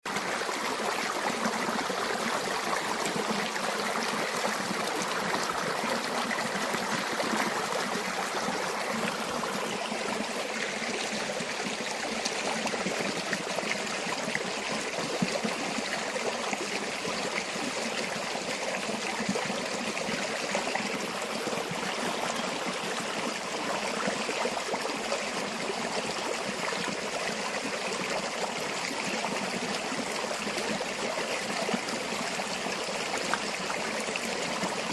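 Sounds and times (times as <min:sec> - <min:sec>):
river water babbling over stones: 0:00.1 - 0:34.9.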